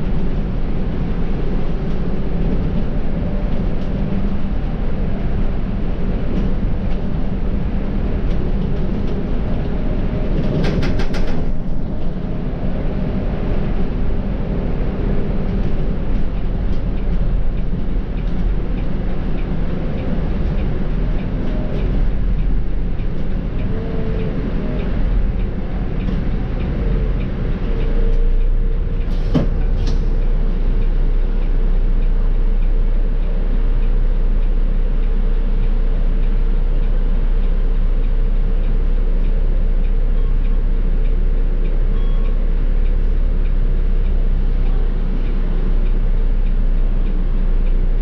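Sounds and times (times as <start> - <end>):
diesel bus engine rumbling: 0.0 - 48.0
drivetrain hum: 0.0 - 48.0.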